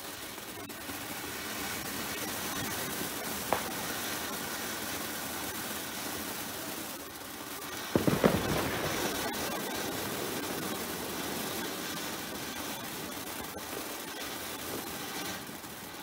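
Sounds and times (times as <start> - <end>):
firework bangs: 0.0 - 16.0
fireworks fountain hissing: 0.0 - 16.0
sharp firework crack: 0.0 - 16.0.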